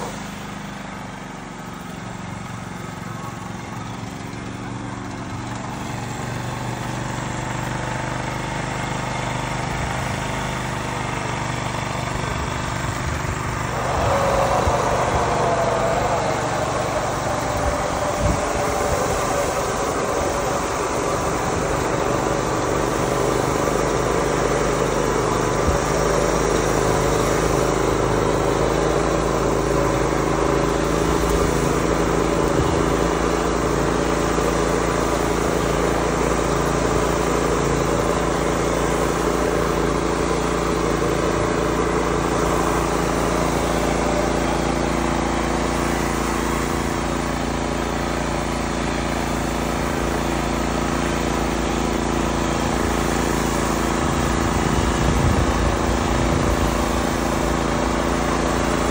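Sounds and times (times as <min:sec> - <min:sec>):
crop sprayer motor and blower: 0:00.0 - 0:58.9.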